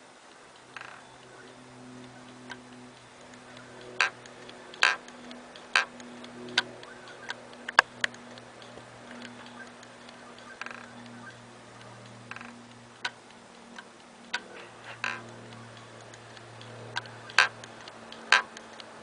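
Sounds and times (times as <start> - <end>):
low hum: 0.0 - 19.0
computer sharp clicks: 0.6 - 19.0.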